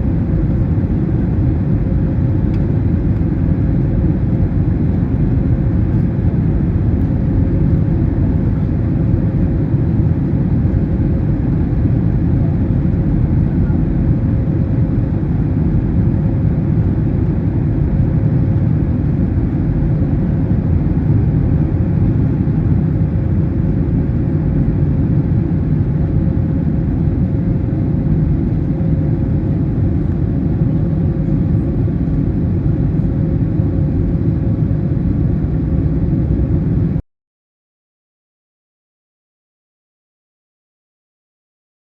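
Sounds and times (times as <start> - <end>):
jet engine roar in cabin: 0.0 - 37.0.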